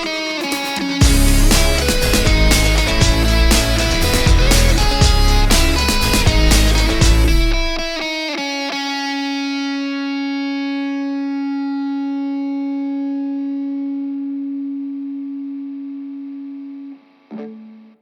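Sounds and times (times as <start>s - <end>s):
distorted electric guitar note: 0.0s - 8.2s, 9.5s - 18.0s.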